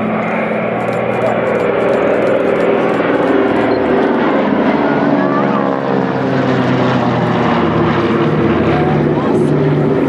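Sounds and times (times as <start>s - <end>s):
propeller plane droning overhead: 0.0s - 10.0s.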